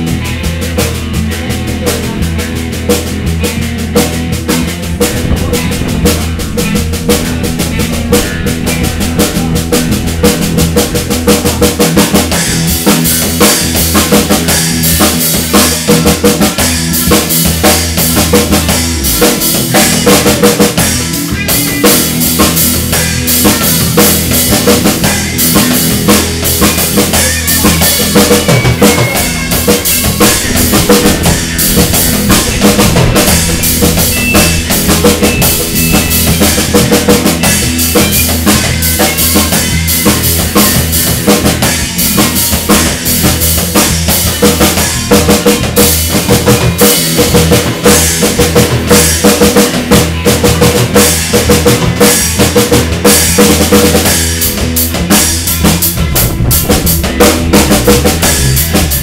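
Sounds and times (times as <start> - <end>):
drum kit beat: 0.0 - 46.2, 53.2 - 59.0
electric bass: 0.0 - 59.0
electric guitar: 0.0 - 59.0.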